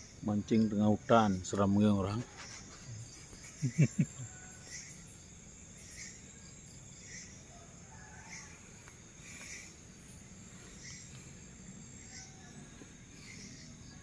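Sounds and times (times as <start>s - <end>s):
insect chirping call: 0.0s - 14.0s
insects high-pitched drone: 0.0s - 14.0s.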